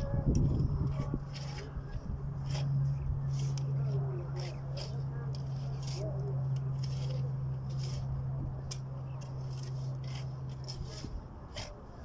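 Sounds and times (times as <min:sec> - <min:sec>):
shovels scraping dry sand: 0:00.0 - 0:12.0
steady low hum: 0:00.0 - 0:12.0.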